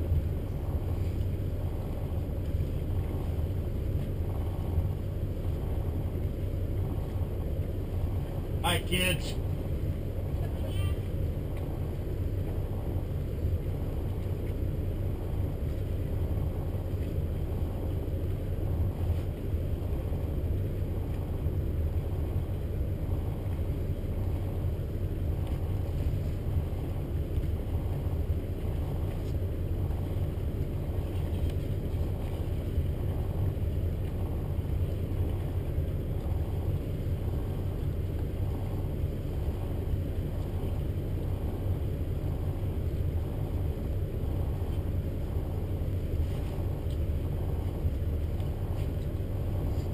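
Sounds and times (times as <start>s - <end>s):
boat engines idling: 0.0s - 49.9s.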